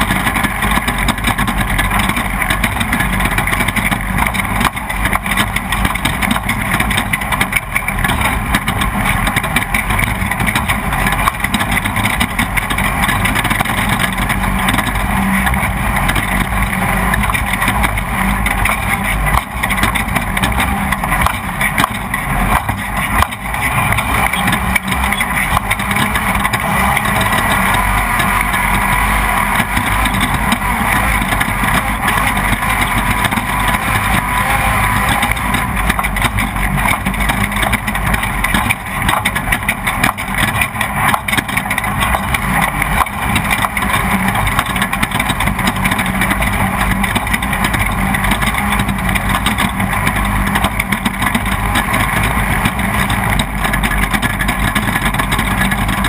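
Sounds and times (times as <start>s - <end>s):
knocks and rattles: 0.0s - 56.0s
race car engine running hard: 0.0s - 56.0s
wind and road noise: 0.0s - 56.0s.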